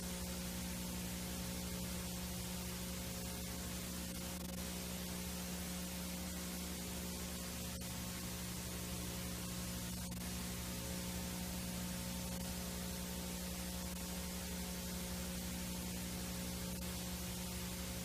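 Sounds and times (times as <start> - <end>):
low electrical hum: 0.0 - 18.0
tape static hiss: 0.0 - 18.0.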